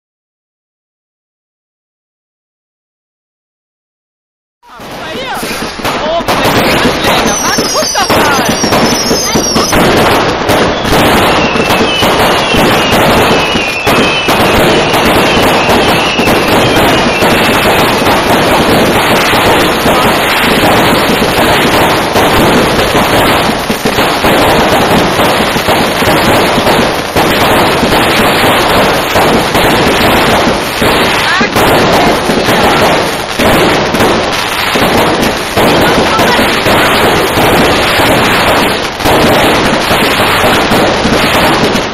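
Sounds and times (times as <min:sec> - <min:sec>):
fireworks banging and crackling: 0:04.6 - 0:41.9
whistling rockets: 0:04.7 - 0:41.9.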